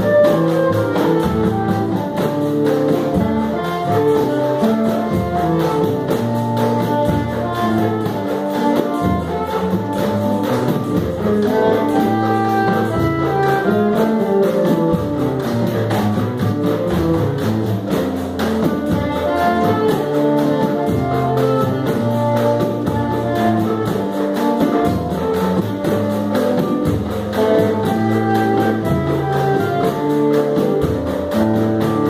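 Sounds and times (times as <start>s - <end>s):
bass drum: 0.0s - 32.0s
bass notes: 0.0s - 32.0s
guitar: 0.0s - 32.0s
hand percussion beat: 0.0s - 32.0s
shakers and tambourines: 0.0s - 32.0s
wind instrument melody: 0.0s - 32.0s.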